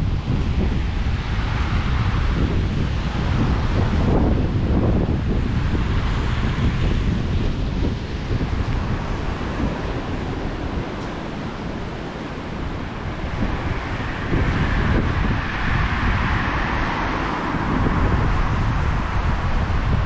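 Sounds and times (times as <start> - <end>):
surf on beach: 0.0 - 20.0
wind buffeting microphone: 0.0 - 20.0.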